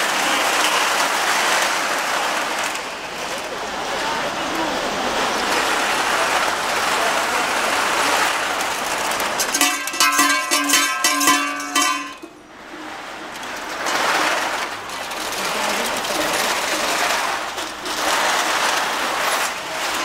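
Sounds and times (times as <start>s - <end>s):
cans dragged over asphalt: 0.0s - 20.0s
tin cans clinking: 0.0s - 20.0s.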